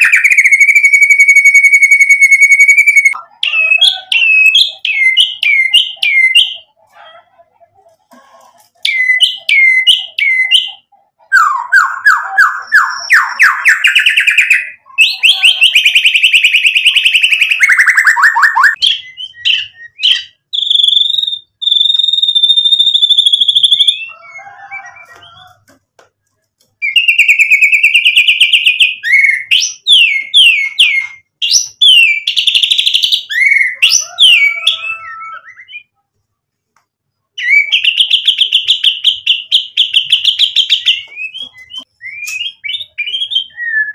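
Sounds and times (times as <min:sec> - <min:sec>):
songbird singing trills and whistles: 0:00.0 - 0:06.7, 0:08.8 - 0:25.5, 0:26.8 - 0:36.0, 0:37.3 - 0:43.9.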